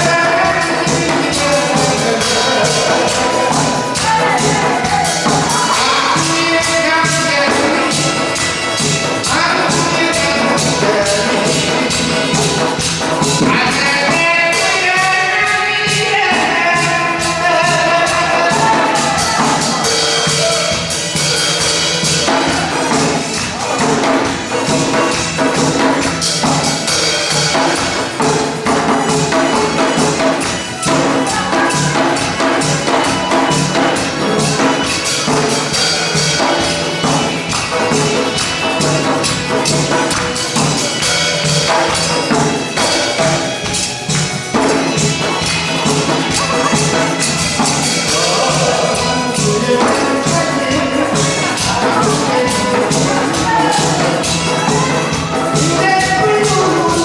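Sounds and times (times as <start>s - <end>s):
hourglass drum fast rhythm: 0.0s - 57.0s
upbeat dance music: 0.0s - 57.0s.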